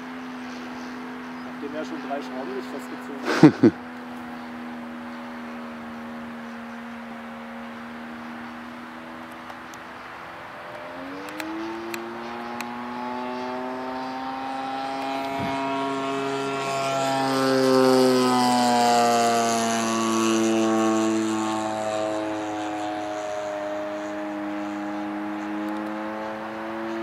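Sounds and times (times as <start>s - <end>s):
model plane engine flying by: 0.0s - 27.0s.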